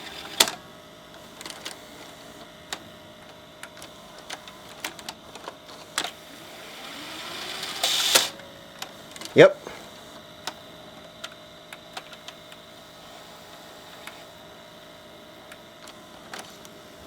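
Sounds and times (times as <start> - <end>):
faint motor whine: 0.0 - 17.0.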